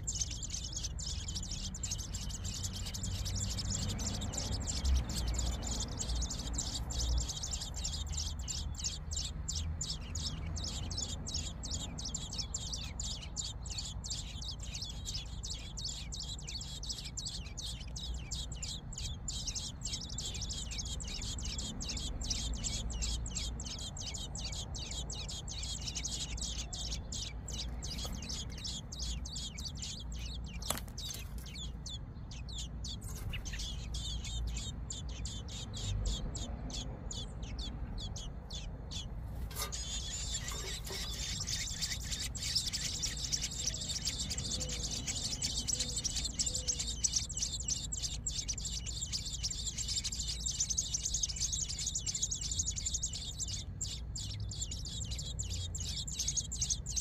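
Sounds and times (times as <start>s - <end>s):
low steady rumble: 0.0s - 57.0s
nestlings cheeping: 0.0s - 57.0s.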